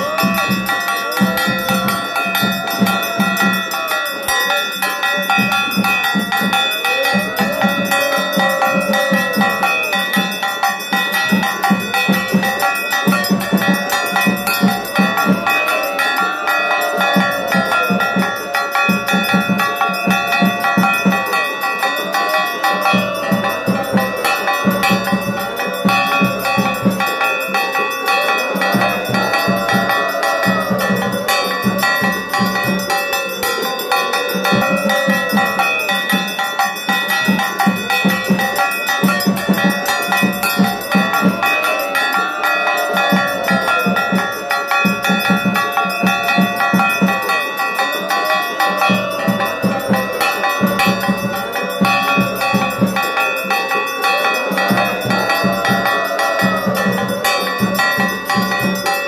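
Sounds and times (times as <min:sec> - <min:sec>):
bells ringing rapidly: 0:00.0 - 0:59.0.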